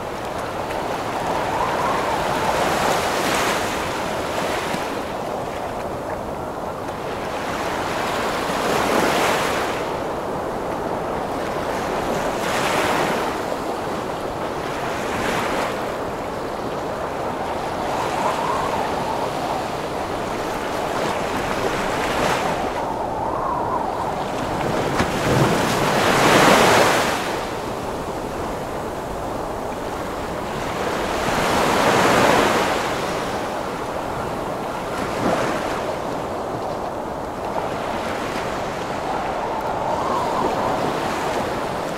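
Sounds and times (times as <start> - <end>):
ocean waves crashing: 0.0 - 5.7, 7.1 - 41.9
strong wind: 0.0 - 41.9.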